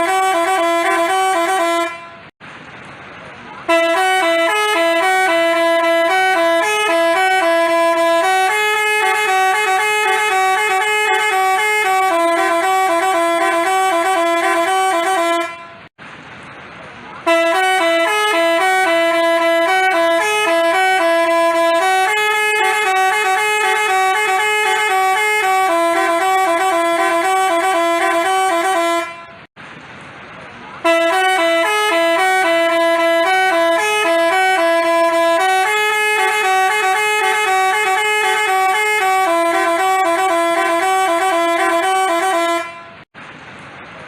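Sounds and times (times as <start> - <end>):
bus horn playing a tune: 0.0 - 2.4, 3.6 - 15.9, 17.2 - 29.5, 30.8 - 43.1.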